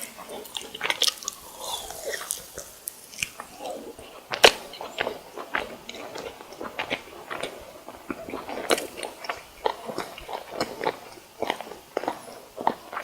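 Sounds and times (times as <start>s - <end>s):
crunchy chewing of fried snacks: 0.0s - 13.0s.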